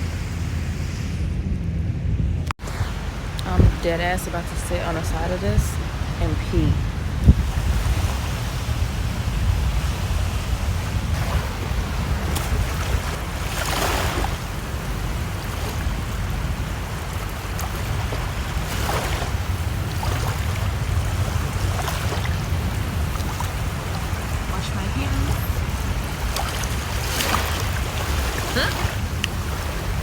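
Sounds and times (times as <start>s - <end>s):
wind rumbling on microphone: 0.0s - 30.0s
ocean surf washing on beach: 2.6s - 30.0s.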